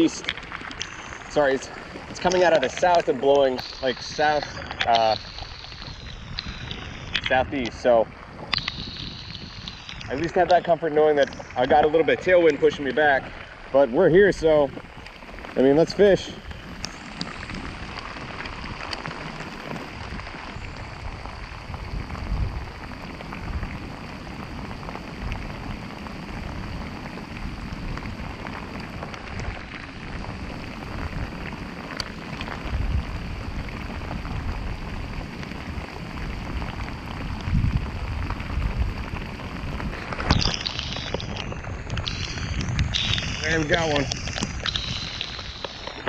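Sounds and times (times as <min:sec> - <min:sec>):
rain pattering on water: 0:00.0 - 0:46.0
wind buffeting microphone: 0:00.0 - 0:46.0.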